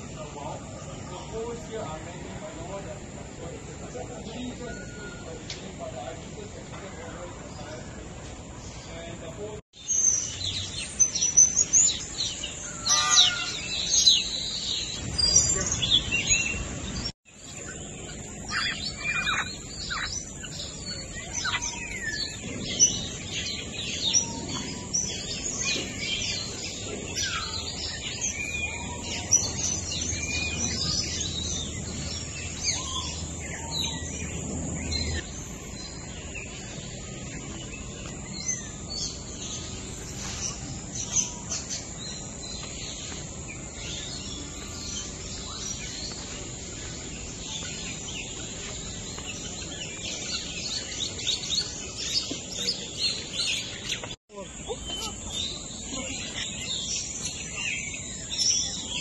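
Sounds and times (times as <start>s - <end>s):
many birds chirping: 0.0s - 59.0s.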